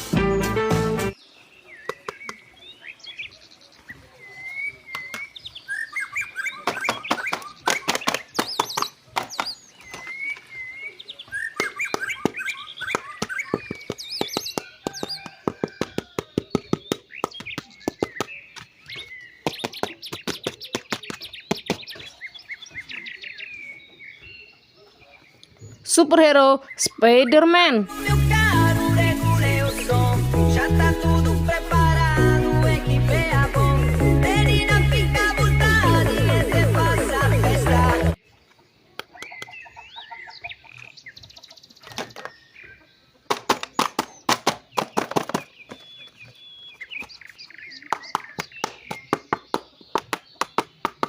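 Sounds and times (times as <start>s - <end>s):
birds chirping: 0.0s - 51.0s.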